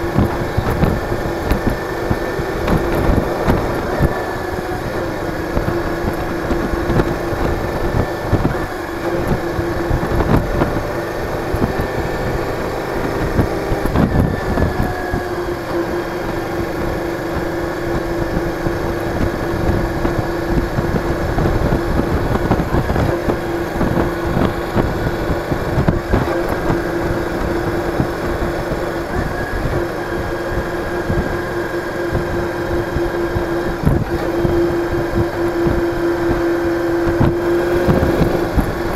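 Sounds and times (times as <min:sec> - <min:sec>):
buffeting wind noise: 0:00.0 - 0:38.9
motorcycle engine hum: 0:00.0 - 0:38.9.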